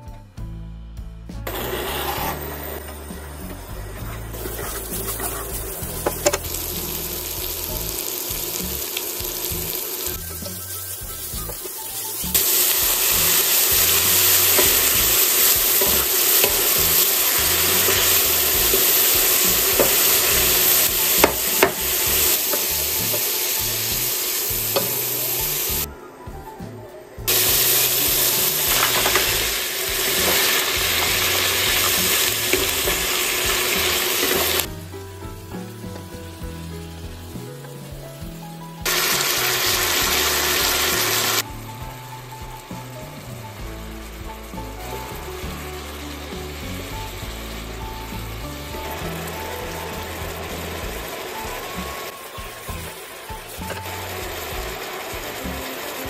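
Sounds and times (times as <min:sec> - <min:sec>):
food sizzling in a frying pan: 0:01.5 - 0:25.9, 0:27.3 - 0:56.0.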